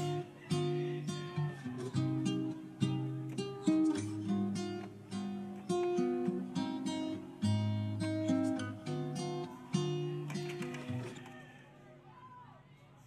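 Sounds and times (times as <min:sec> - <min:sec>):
acoustic guitar music: 0:00.0 - 0:11.3.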